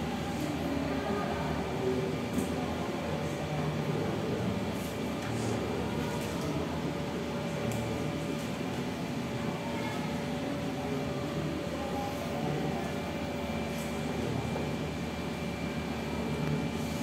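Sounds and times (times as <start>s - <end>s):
ventilation hum and hiss: 0.0s - 17.0s.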